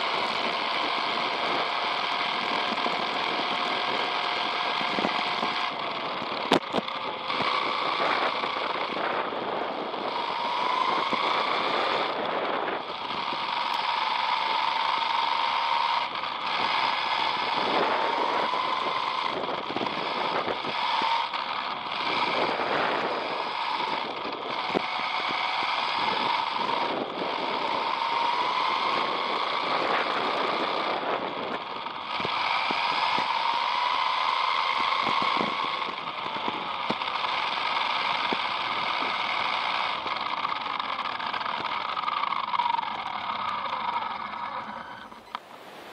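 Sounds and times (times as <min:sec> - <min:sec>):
electric motor whine: 0:00.0 - 0:45.9.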